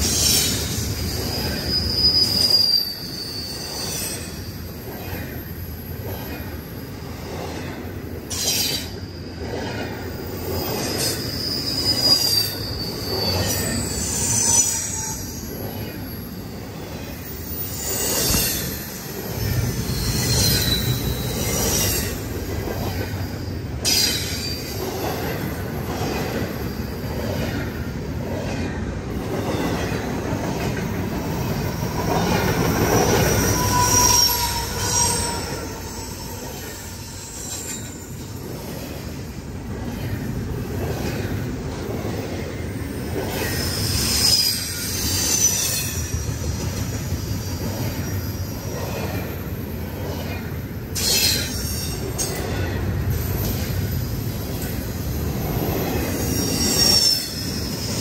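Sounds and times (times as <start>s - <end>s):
freight train rumbling and rattling: 0.0s - 58.0s
train wheel squeal: 0.0s - 58.0s.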